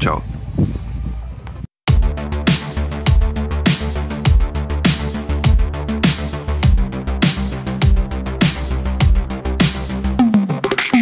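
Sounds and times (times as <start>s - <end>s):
electronic music with heavy beat: 1.9s - 11.0s.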